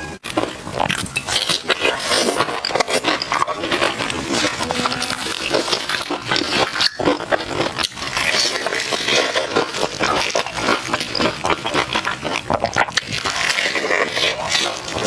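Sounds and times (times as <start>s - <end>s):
crunchy chewing: 0.2s - 15.0s.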